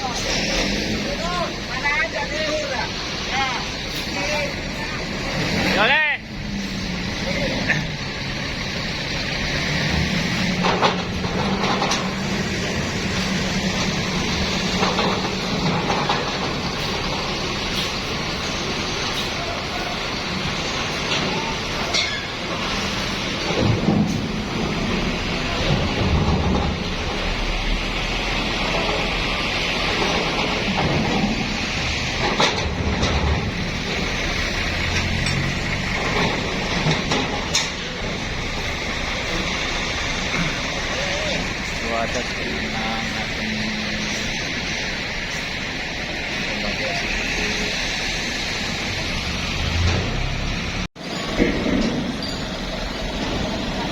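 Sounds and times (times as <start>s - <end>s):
heavy vehicle engine running: 0.0s - 53.9s
road or wind noise hiss: 0.0s - 53.9s.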